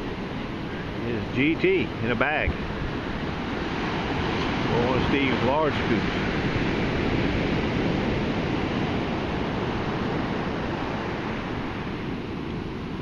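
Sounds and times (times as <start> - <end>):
heavy surf breaking: 0.0 - 13.0
wind buffeting microphone: 0.0 - 13.0.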